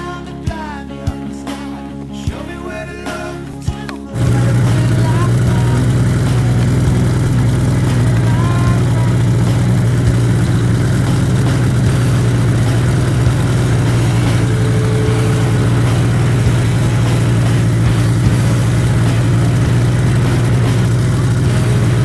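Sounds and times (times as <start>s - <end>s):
snowmobile engine droning: 4.1s - 22.0s.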